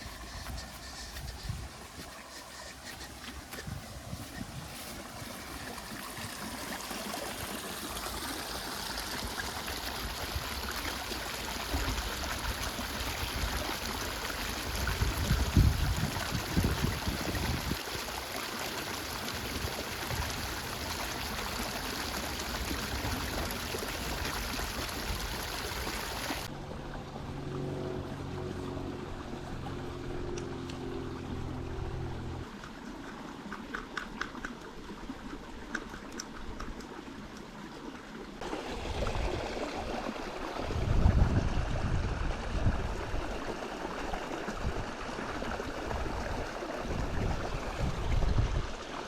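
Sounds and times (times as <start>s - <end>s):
water rushing into reservoir: 0.0s - 49.0s.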